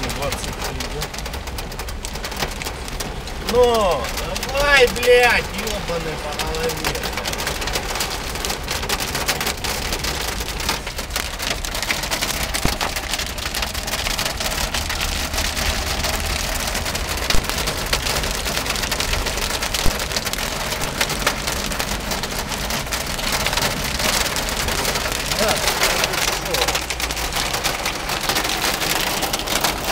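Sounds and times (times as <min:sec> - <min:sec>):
hail and rain on car roof: 0:00.0 - 0:29.9.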